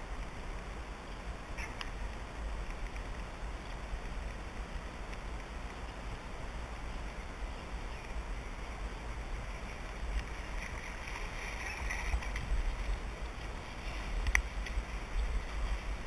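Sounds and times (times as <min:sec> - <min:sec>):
low wind rumble on microphone: 0:00.0 - 0:16.0.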